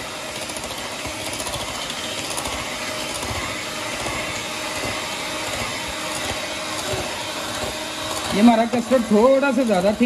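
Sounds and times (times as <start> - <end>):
electric hand mixer running: 0.0 - 10.0.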